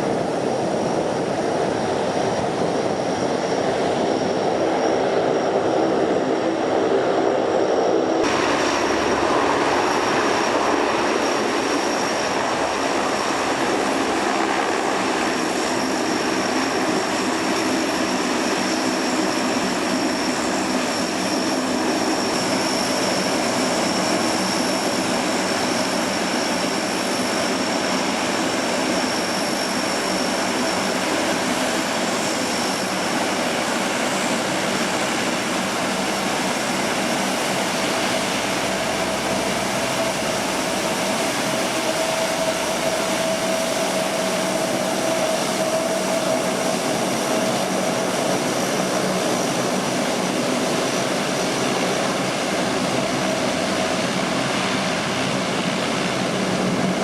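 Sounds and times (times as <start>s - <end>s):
turboprop engines roaring: 0.0s - 57.0s.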